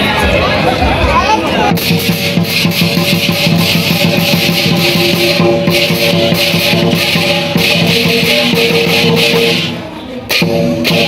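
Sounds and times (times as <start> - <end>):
rapid percussion with cymbals: 0.3 - 11.0.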